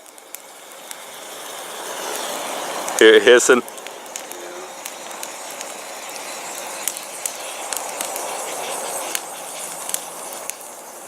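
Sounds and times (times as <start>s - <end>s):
fire crackles and pops: 0.0s - 11.0s
fire hissing: 0.0s - 11.0s.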